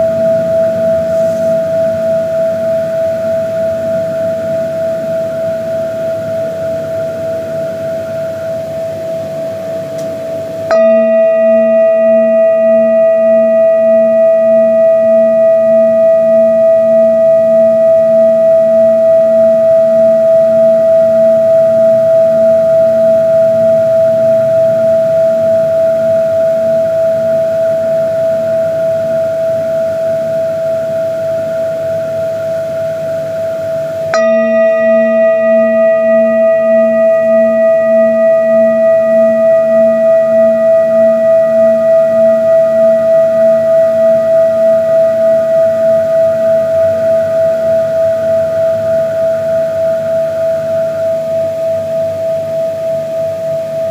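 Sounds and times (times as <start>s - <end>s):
singing bowl ringing: 0.0s - 53.9s.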